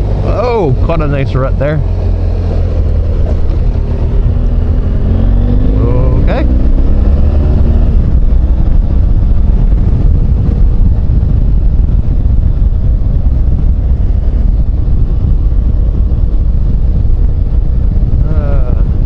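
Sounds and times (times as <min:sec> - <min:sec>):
motorcycle engine: 0:00.0 - 0:19.0
wind rush on microphone: 0:00.0 - 0:19.0.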